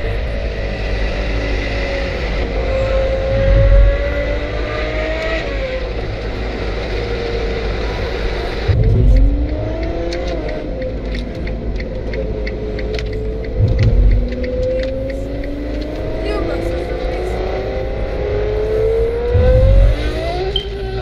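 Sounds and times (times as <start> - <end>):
car engine accelerating: 0.0 - 21.0
low rumbles: 0.0 - 21.0
road noise: 0.0 - 21.0.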